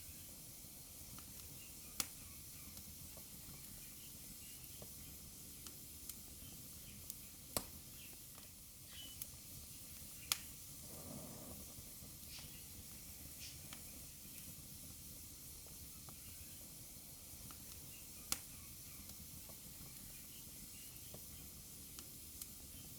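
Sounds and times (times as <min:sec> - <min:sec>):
wood fire crackling and popping: 0:00.7 - 0:22.9.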